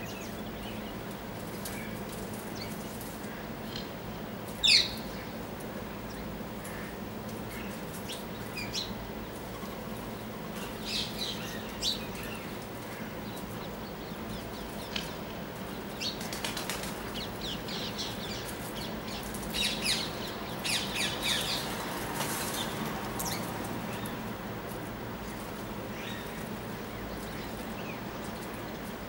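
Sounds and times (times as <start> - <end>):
birds chirping: 0.0 - 24.3
steady low hum: 0.0 - 29.0.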